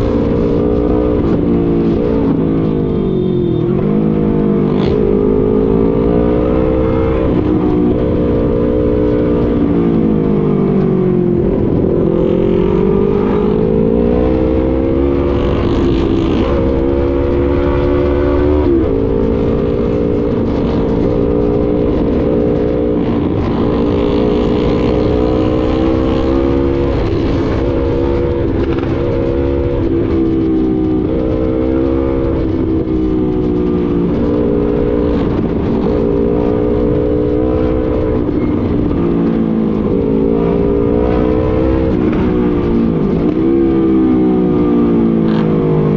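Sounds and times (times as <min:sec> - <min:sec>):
low wind rumble: 0:00.0 - 0:45.9
motorcycle engine running: 0:00.0 - 0:45.9.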